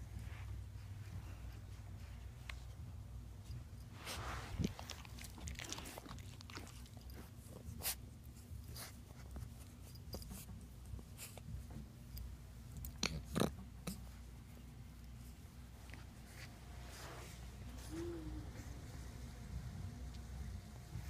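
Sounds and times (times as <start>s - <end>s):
rustling fur and bedding: 0.0s - 12.8s, 13.6s - 21.0s
steady low hum: 0.0s - 21.0s.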